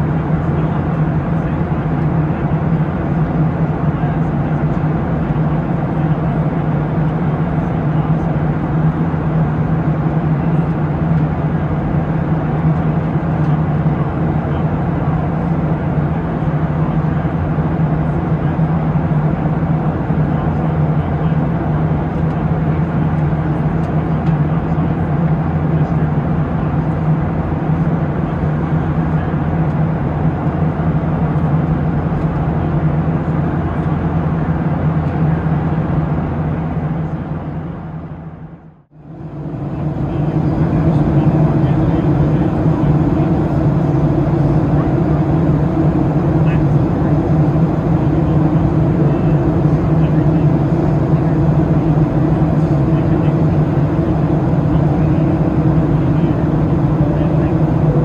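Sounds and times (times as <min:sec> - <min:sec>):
air rushing along fuselage: 0:00.0 - 0:58.0
jet engines droning: 0:00.0 - 0:58.0.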